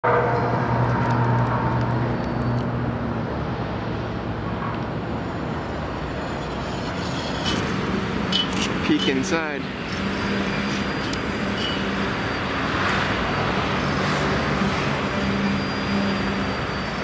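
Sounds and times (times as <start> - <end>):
passing vehicle engine hum: 0.0 - 17.0
steady traffic rumble: 0.0 - 17.0.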